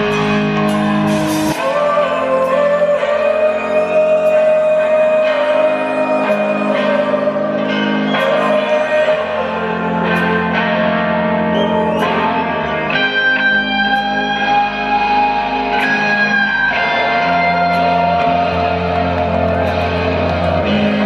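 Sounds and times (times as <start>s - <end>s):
live rock band playing: 0.0s - 21.0s
sustained electric guitar chords: 0.0s - 21.0s.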